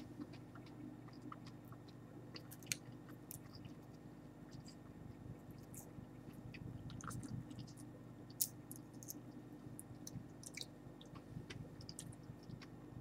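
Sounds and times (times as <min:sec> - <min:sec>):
crisp clicks and crackles of chewing: 0:00.0 - 0:13.0
steady low hum: 0:00.0 - 0:13.0.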